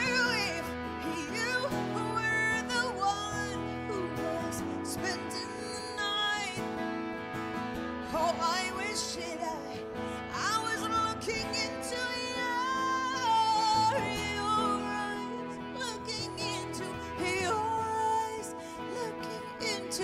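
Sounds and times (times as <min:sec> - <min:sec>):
acoustic guitar: 0:00.0 - 0:20.0
woman singing: 0:00.0 - 0:20.0.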